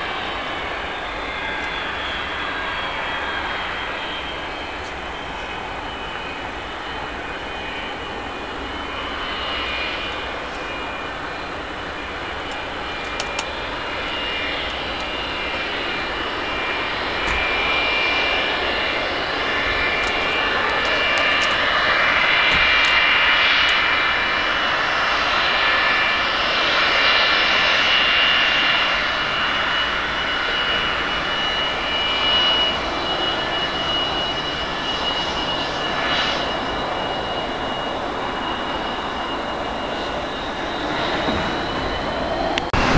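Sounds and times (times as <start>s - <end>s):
jet engines rushing and whining: 0.0s - 42.9s.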